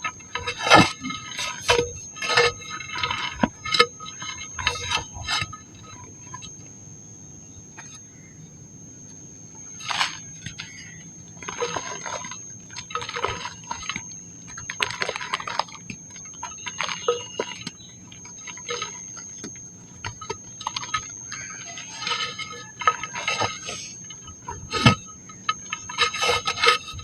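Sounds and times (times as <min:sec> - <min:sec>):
dry mud crumbling and crunching: 0:00.0 - 0:06.5, 0:09.6 - 0:27.0.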